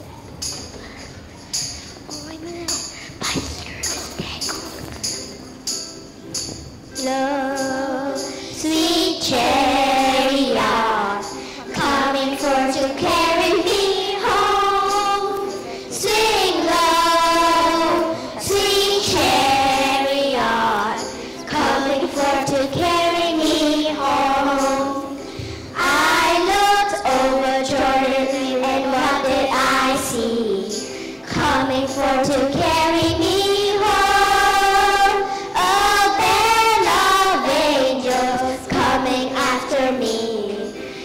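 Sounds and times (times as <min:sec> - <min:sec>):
children singing: 0:07.0 - 0:40.9.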